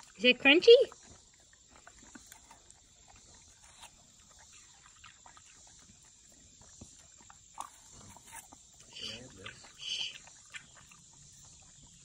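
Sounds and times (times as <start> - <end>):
dog chewing and crunching: 0.0 - 12.0.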